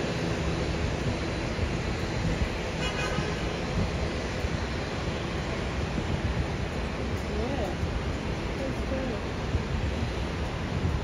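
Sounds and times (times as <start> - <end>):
distant jet airliner rumble: 0.0 - 11.0
wind on microphone: 0.0 - 11.0.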